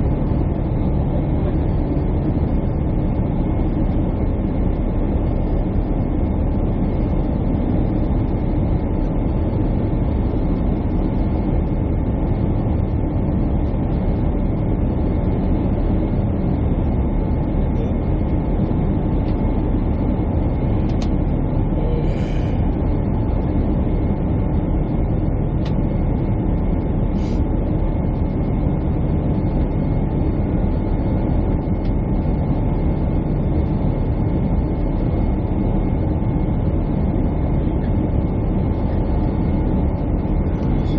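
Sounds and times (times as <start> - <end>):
faint steady hum: 0.0 - 40.9
jet engine cabin rumble: 0.0 - 40.9.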